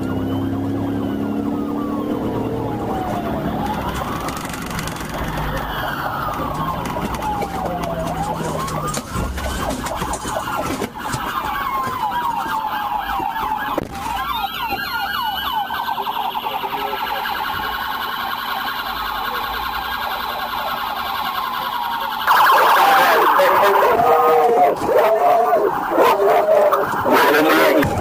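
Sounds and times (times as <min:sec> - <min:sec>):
police siren wailing and yelping: 0:00.0 - 0:28.0.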